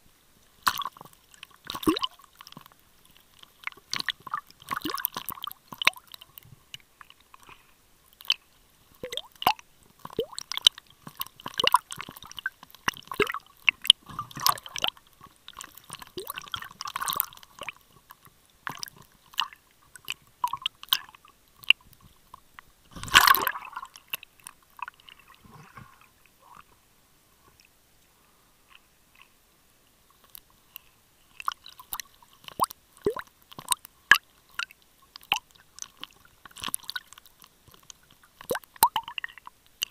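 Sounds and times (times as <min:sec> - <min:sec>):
underwater clicks and crackles: 0:00.0 - 0:26.8, 0:28.6 - 0:39.9.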